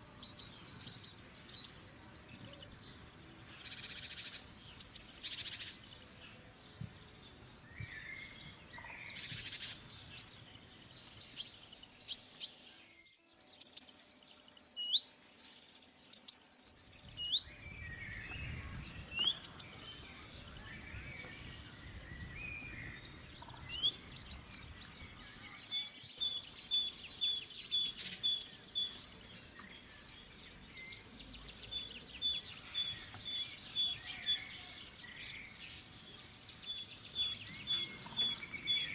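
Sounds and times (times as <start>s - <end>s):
bird singing trills: 0.0s - 38.9s.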